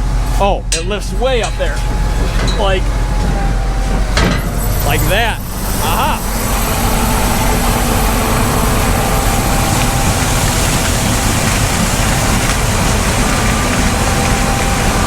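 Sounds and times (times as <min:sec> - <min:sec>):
low rumble: 0:00.0 - 0:14.6
broad rush of noise: 0:00.0 - 0:15.0
diesel engine running: 0:00.0 - 0:15.0
faint steady tones: 0:00.0 - 0:15.0.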